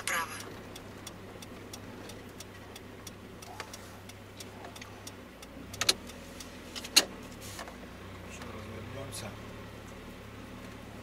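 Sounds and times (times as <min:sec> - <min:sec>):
turn signal relay ticking: 0:00.0 - 0:10.0
engine humming: 0:00.0 - 0:11.0.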